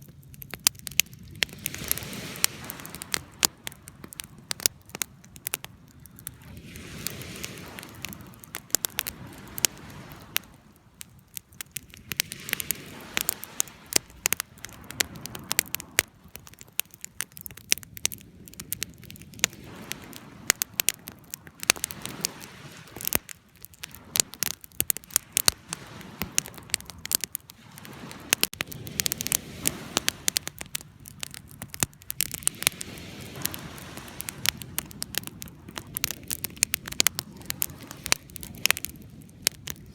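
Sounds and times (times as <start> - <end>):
wood fire crackling: 0.0 - 39.9
fire hissing: 0.3 - 39.9.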